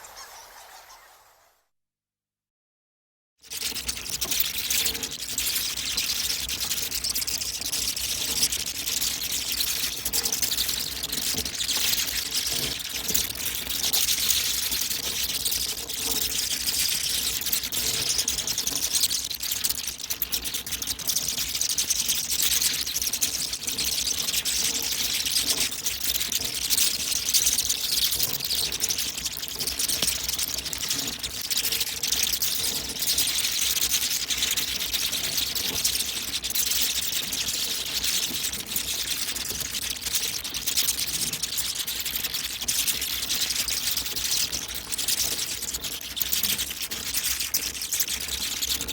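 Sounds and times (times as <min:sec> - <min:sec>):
bats squeaking and clicking: 0:00.0 - 0:01.2, 0:03.5 - 0:48.9.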